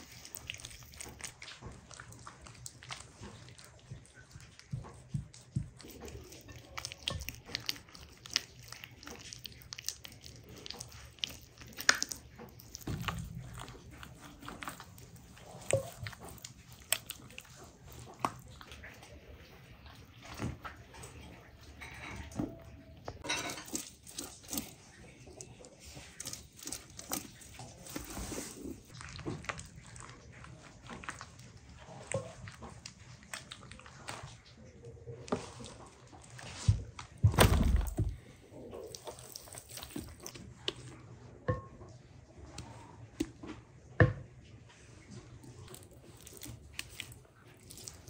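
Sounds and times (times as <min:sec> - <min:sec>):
hands squelching on wet meat: 0:00.0 - 0:21.8, 0:22.9 - 0:41.2, 0:44.8 - 0:48.0.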